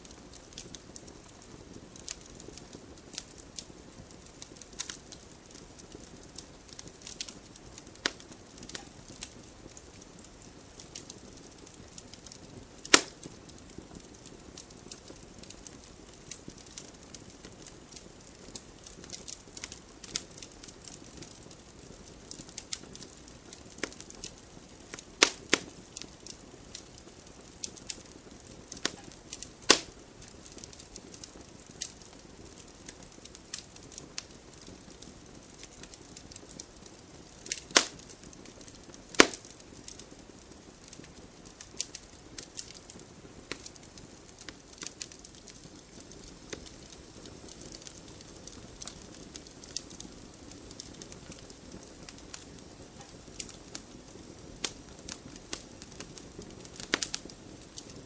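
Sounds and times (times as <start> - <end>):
fire crackling and popping: 0.0 - 58.0
soft hiss of fire: 0.0 - 58.0.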